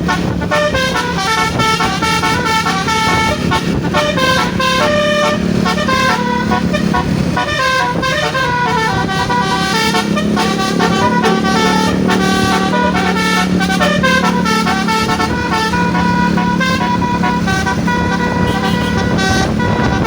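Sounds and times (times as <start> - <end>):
bus engine drone: 0.0 - 20.0
musical bus horn melody: 0.0 - 20.0.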